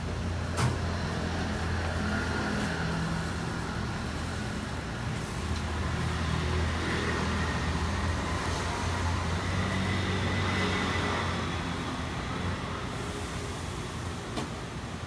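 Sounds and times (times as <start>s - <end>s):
street stall background hum: 0.0s - 15.0s.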